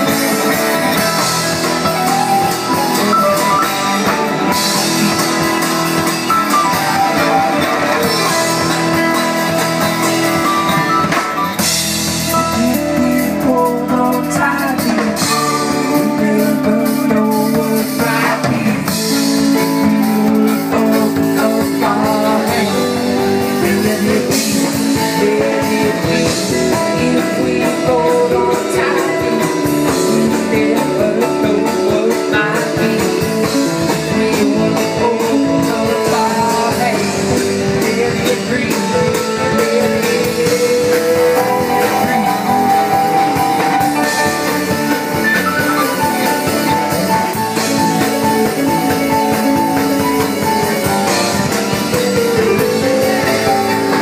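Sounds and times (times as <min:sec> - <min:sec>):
drum kit beat: 0:00.0 - 0:54.0
guitar: 0:00.0 - 0:54.0.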